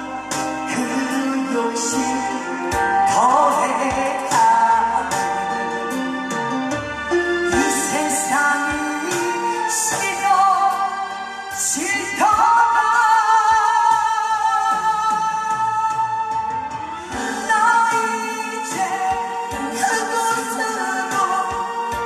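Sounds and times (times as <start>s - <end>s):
instrumental backing with drums: 0.0s - 22.0s
person singing live: 0.0s - 22.0s.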